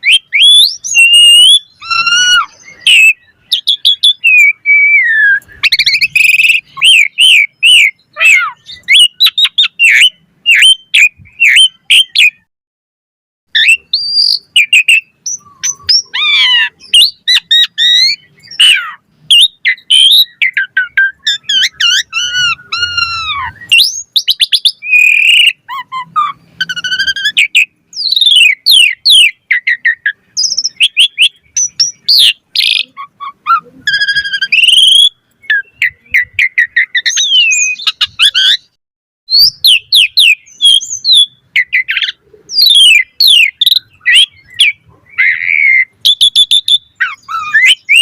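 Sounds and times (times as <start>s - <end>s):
starling singing whistles and trills: 0.0s - 12.5s, 13.5s - 48.0s.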